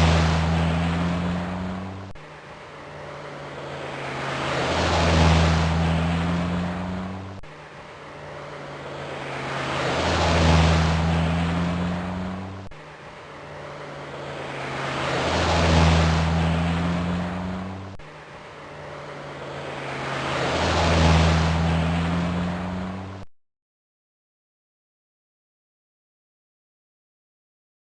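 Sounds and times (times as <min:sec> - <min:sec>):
turbo car engine running: 0:00.0 - 0:23.3.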